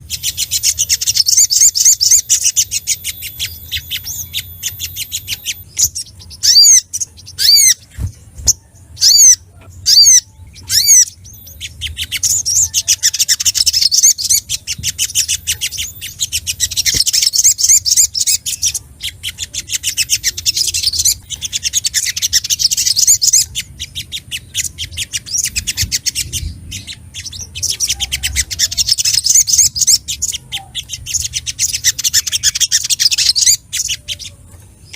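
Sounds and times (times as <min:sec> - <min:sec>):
bird chittering: 0:00.0 - 0:34.9
bird slurred whistles: 0:00.1 - 0:33.6.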